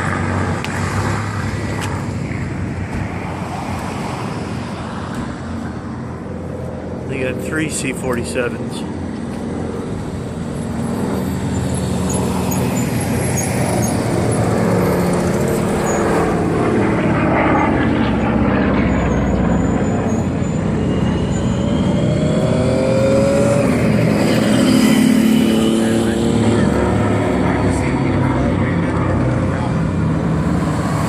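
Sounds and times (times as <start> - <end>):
propeller aircraft engine drone: 0.0 - 31.0.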